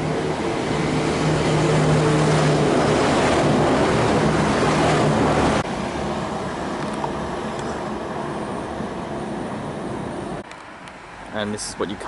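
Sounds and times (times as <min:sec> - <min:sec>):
train rumble: 0:00.0 - 0:10.4.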